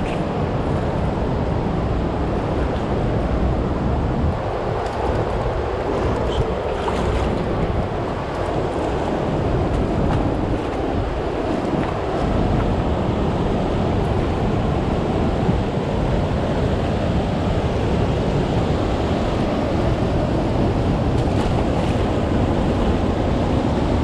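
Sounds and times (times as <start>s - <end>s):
rushing floodwater on a river: 0.0s - 24.0s
wind buffeting microphone: 0.0s - 24.0s.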